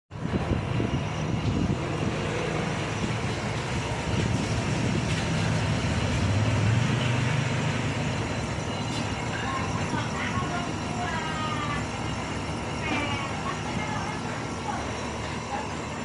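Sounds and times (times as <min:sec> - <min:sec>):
air conditioner humming: 0:00.2 - 0:16.0.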